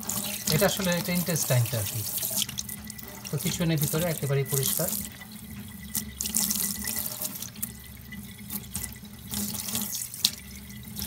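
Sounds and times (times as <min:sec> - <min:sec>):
tap water splashing into sink: 0:00.0 - 0:11.0.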